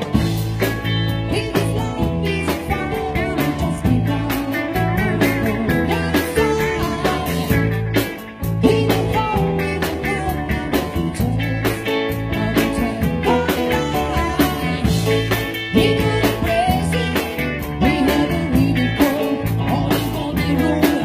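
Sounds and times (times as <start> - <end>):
live rock band playing: 0.0 - 21.0
person singing: 0.0 - 21.0.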